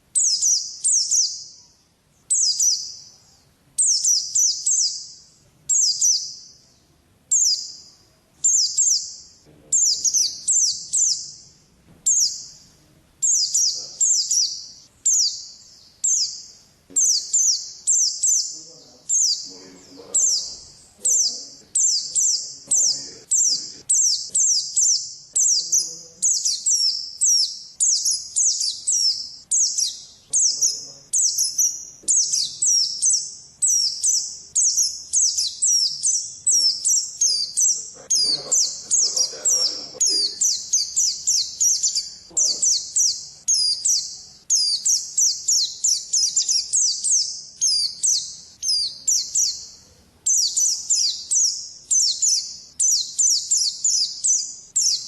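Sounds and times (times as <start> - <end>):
bird singing high chirping notes: 0.0 - 3.2, 3.8 - 55.0.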